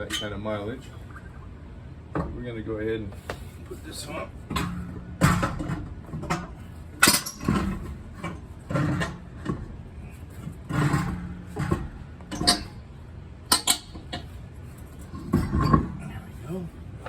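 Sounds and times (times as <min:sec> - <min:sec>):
wheel clunking and scraping: 0:02.1 - 0:17.0.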